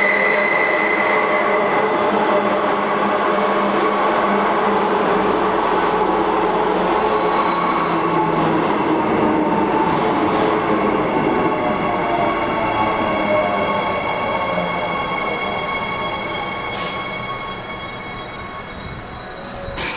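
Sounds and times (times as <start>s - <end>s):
high-pitched train squealing: 0.0s - 19.9s.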